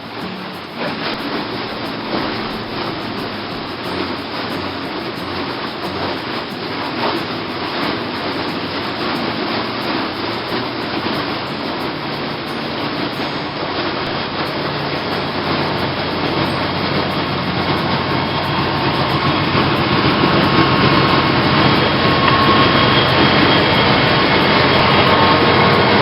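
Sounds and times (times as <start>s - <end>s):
boat engine running: 0.0s - 26.0s
steady rushing noise: 0.0s - 26.0s.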